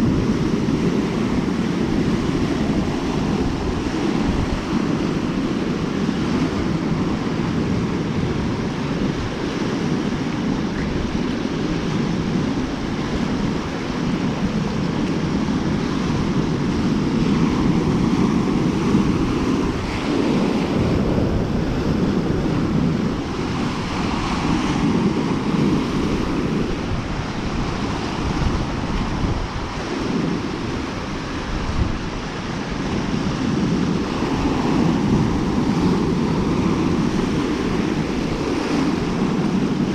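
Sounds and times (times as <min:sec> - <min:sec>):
waves washing onto shore: 0:00.0 - 0:39.9
wind buffeting microphone: 0:00.0 - 0:39.9.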